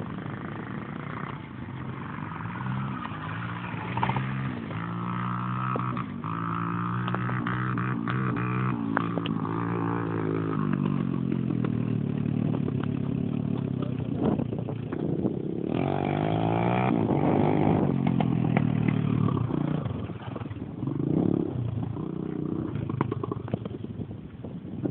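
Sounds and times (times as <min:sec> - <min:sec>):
dirt bike engine revving: 0:00.0 - 0:23.5.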